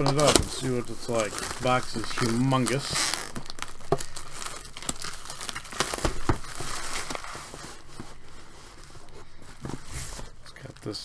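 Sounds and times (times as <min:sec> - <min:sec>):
wrapping and cardboard crinkling: 0:00.0 - 0:11.0.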